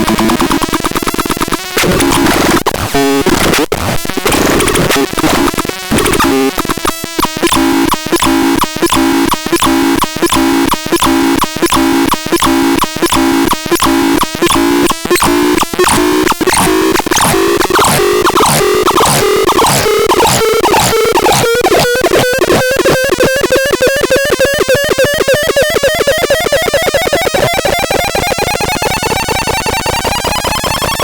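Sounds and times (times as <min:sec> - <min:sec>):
pulsing buzzy electronic tone: 0:00.0 - 0:31.0.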